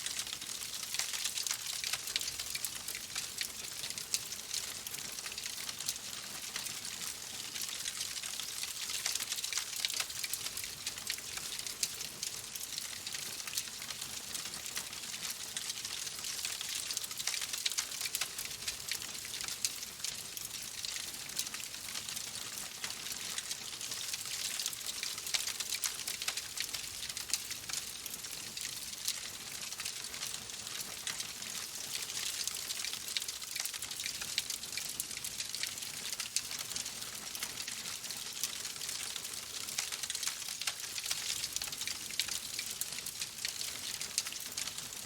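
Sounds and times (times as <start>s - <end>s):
fire crackling in fireplace: 0.1s - 45.0s.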